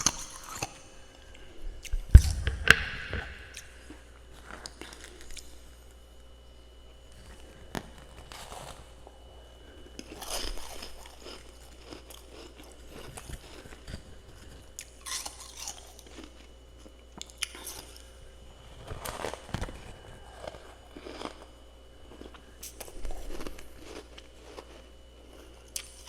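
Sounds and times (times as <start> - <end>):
person chewing crunchy frost: 0.0 - 26.0.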